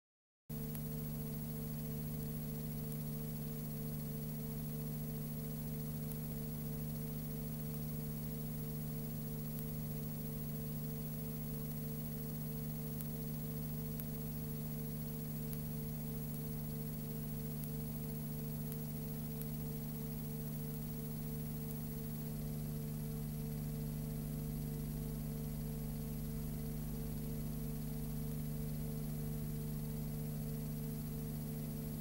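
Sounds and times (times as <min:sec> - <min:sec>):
electrical hum: 0:00.5 - 0:32.0
faint ticks: 0:00.5 - 0:32.0.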